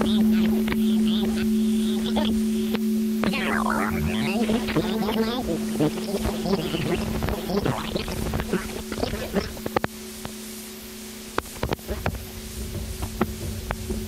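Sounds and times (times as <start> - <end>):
low two-note drone: 0.0 - 14.0.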